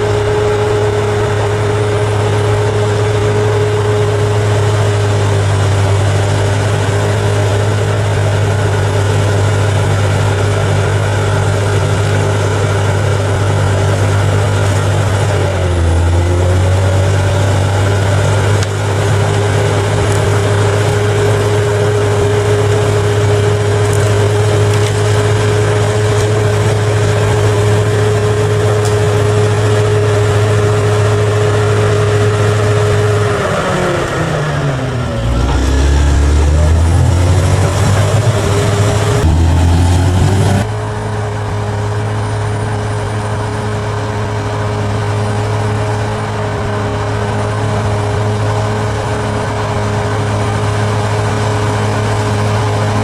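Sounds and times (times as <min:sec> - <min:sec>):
bulldozer diesel engine running: 0:00.0 - 0:53.0
steady whine: 0:00.0 - 0:53.0.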